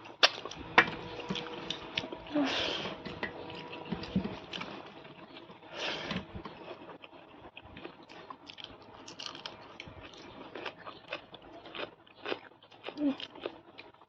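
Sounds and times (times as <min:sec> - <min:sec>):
food crunching: 0:00.0 - 0:14.0
person chewing food: 0:00.0 - 0:14.0.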